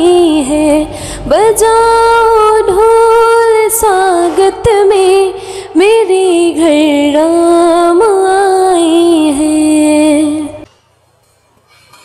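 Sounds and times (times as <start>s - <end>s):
woman singing devotional song: 0.0s - 10.7s.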